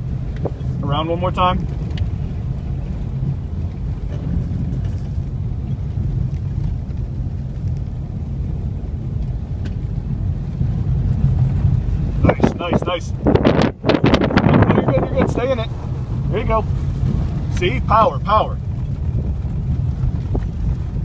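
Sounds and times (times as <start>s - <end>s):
car engine rumbling inside cabin: 0.0s - 21.0s.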